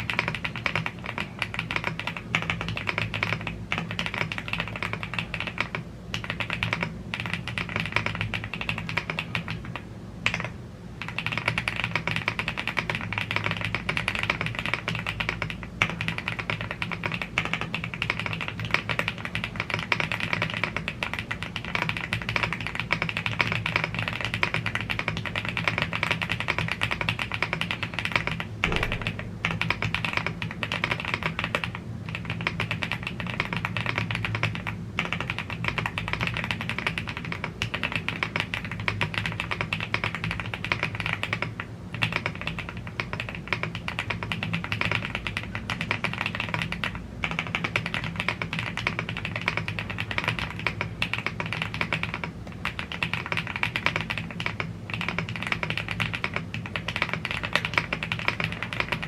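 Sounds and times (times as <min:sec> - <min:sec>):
fast mechanical keyboard typing: 0:00.0 - 0:59.0.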